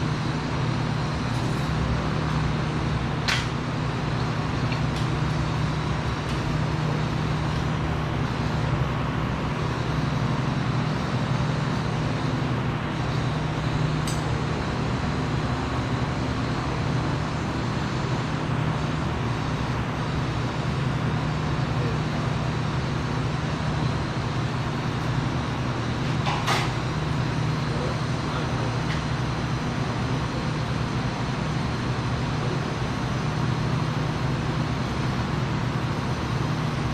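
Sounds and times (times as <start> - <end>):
machinery humming and hissing: 0.0 - 36.9.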